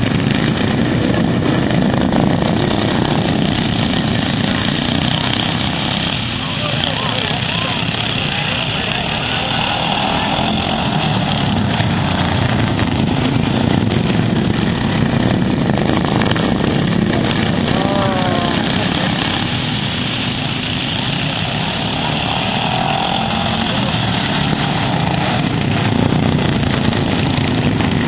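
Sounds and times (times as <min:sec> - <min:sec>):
lawn mower engines running: 0:00.0 - 0:28.0.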